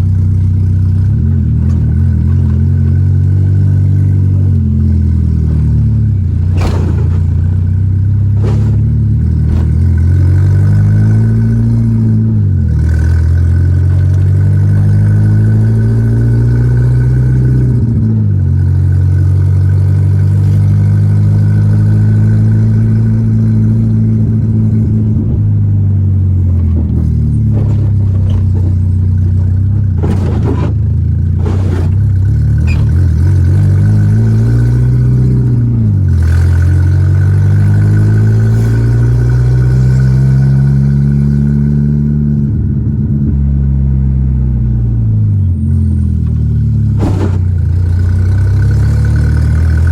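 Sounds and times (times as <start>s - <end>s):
car engine changing gears: 0.0s - 49.9s.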